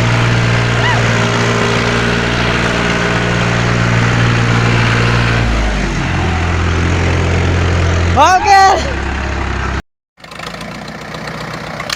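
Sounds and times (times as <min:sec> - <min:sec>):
tractor engine running hard: 0:00.0 - 0:11.9.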